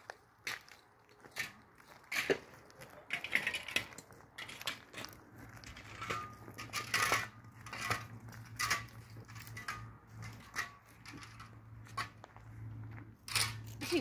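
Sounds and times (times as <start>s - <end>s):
clinks and knocks of small objects: 1.1s - 14.0s.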